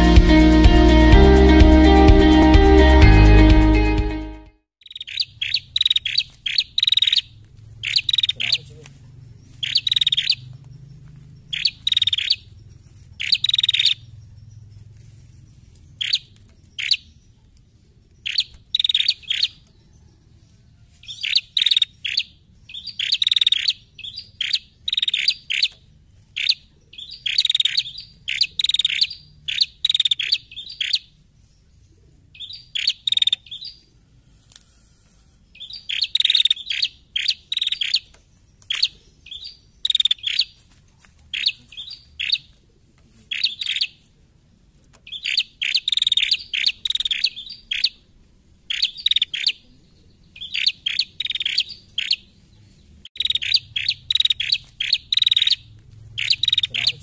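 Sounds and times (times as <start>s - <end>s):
bird chirping: 4.8s - 40.6s, 41.3s - 42.6s, 43.3s - 44.0s, 45.0s - 57.0s.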